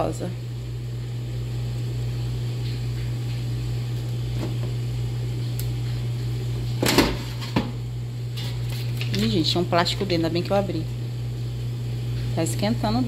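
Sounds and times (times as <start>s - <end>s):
air fryer fan humming: 0.0s - 13.0s.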